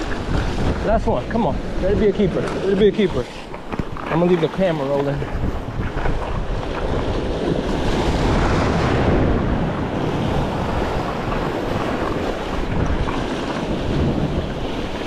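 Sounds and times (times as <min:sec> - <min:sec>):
waves breaking against rocks: 0:00.0 - 0:15.0
wind buffeting microphone: 0:00.0 - 0:15.0.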